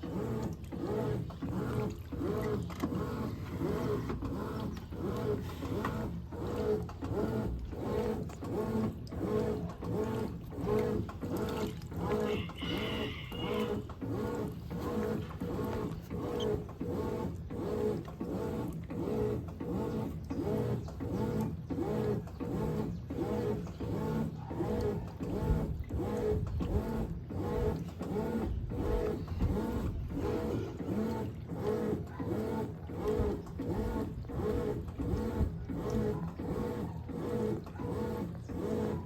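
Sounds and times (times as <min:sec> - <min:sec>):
washing machine churning: 0:00.0 - 0:39.0.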